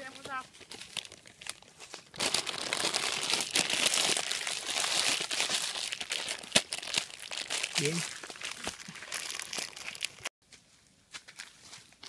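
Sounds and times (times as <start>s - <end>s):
plastic bag crinkling: 0.3s - 10.3s.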